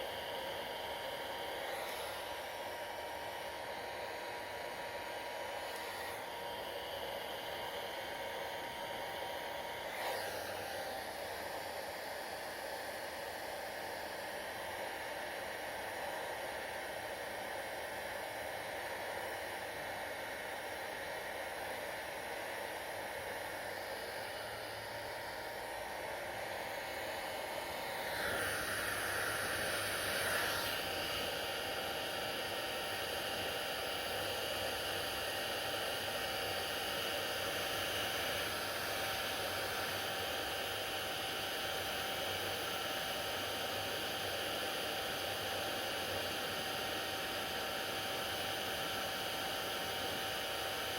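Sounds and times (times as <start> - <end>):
hair dryer blowing: 0.0 - 50.9.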